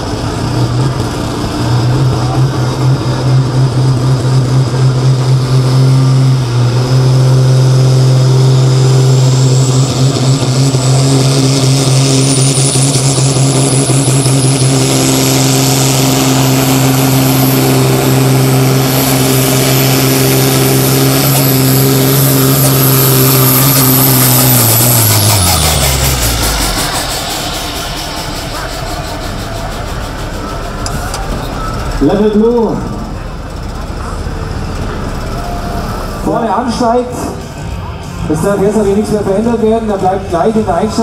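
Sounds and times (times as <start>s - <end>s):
diesel engine at steady revs: 0.0s - 41.0s
high turbo whine: 0.0s - 41.0s.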